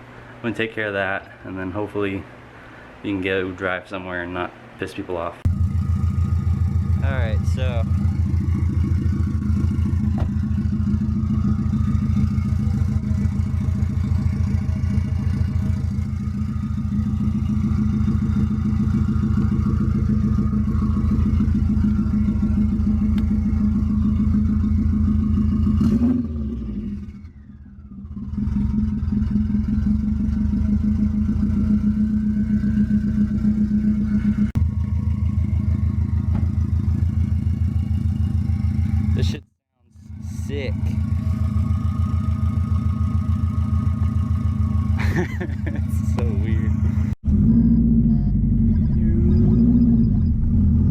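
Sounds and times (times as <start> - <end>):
loud raw pulsing exhaust note: 5.5 - 39.4, 40.0 - 50.9.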